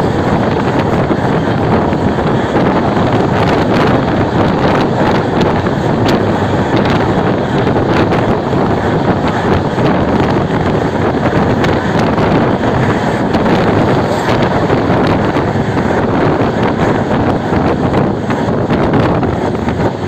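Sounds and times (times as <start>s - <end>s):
train wheels on track: 0.0s - 20.0s
wind buffeting microphone: 0.0s - 20.0s.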